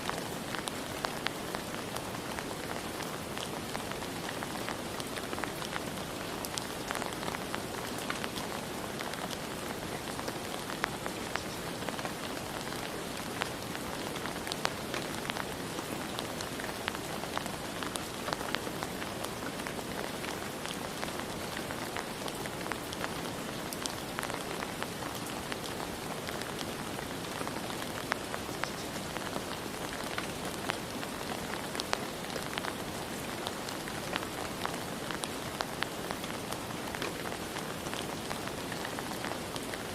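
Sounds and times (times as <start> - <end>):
raindrops ticking on hard surface: 0.0 - 39.9
steady rain hiss: 0.0 - 39.9.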